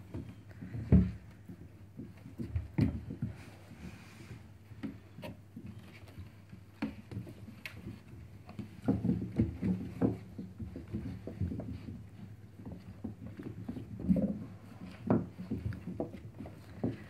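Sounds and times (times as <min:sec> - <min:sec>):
puppies scuffling and scrabbling: 0:00.0 - 0:17.0.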